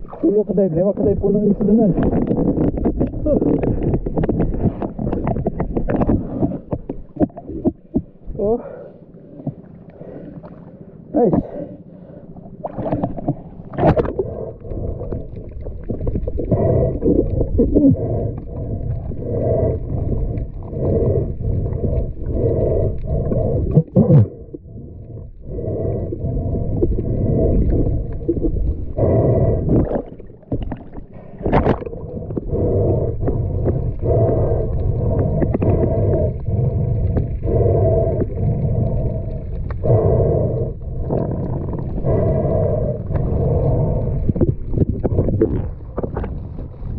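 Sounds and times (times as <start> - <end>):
low churning underwater rumble: 0.0 - 46.9.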